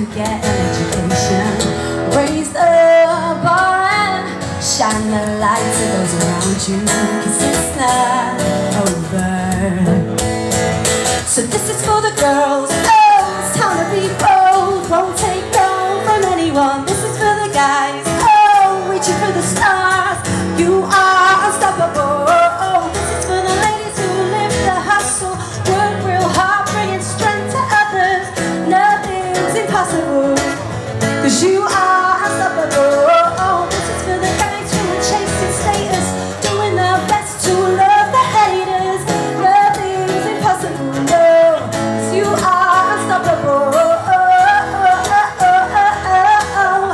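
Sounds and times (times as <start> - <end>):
strummed acoustic guitar: 0.0 - 46.9
woman singing into a microphone: 0.0 - 46.9.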